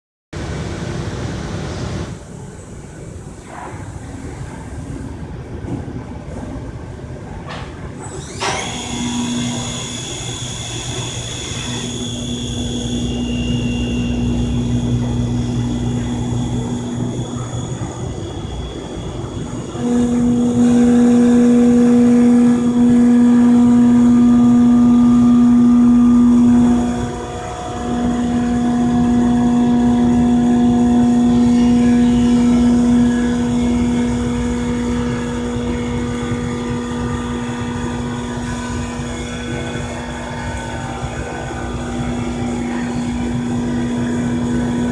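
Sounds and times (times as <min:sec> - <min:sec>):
machine tool whine: 0:07.5 - 0:44.9.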